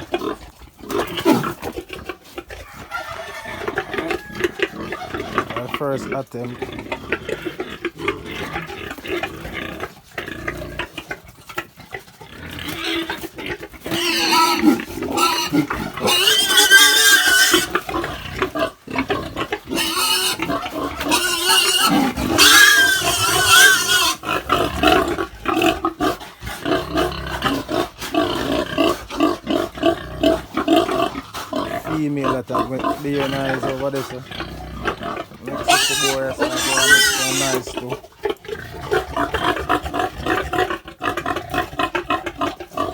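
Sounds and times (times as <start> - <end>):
pig squealing: 0.0 - 42.9
pigs grunting: 0.0 - 42.9.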